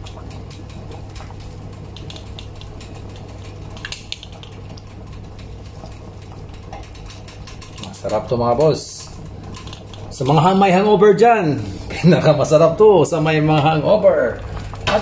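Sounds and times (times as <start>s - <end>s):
broth simmering with small pops: 0.0s - 15.0s
low steady hum: 0.0s - 15.0s.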